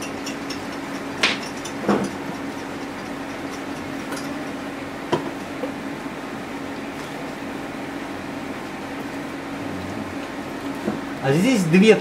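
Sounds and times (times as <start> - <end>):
fan mechanical hum: 0.0 - 12.0.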